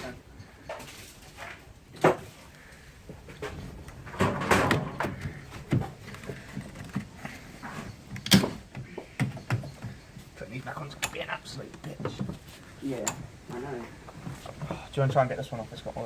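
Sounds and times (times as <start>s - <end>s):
tools and parts clattering: 0.0s - 13.3s.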